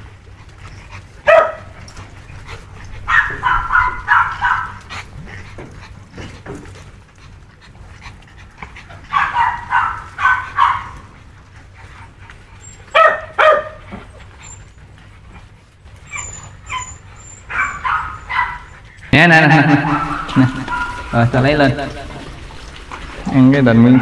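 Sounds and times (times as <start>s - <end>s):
puppies yipping and whining: 0.4s - 24.0s.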